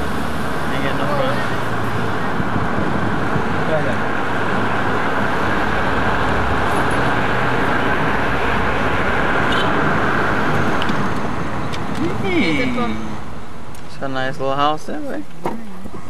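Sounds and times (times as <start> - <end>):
road and wind noise from car: 0.0 - 16.0.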